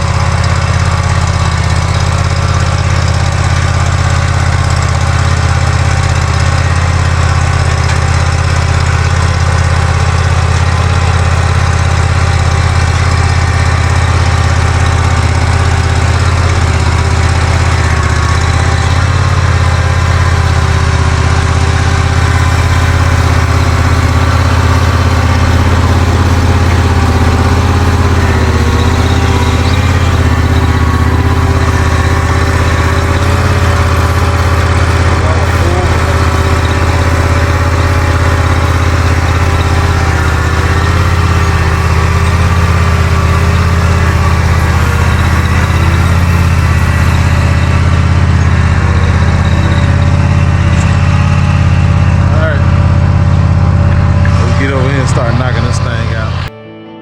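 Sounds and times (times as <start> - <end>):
stump grinder engine running: 0.0 - 56.5.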